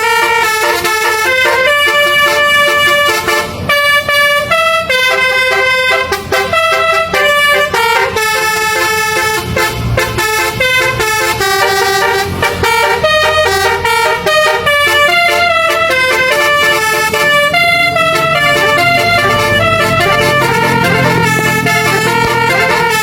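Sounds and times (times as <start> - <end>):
musical air horn playing a melody: 0.0 - 23.0.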